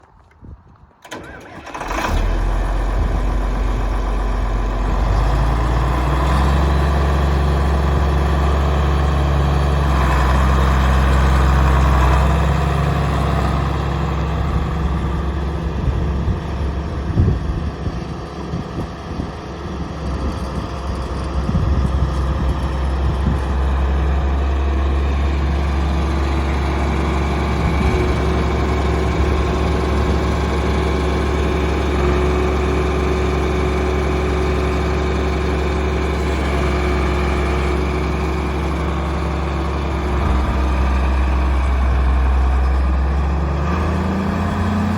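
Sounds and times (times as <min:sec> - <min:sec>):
diesel engine starting and idling: 0:01.0 - 0:44.9.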